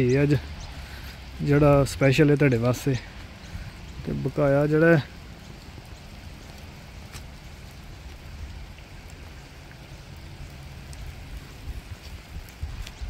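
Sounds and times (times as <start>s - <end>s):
light rain on wet road: 0.0s - 13.0s.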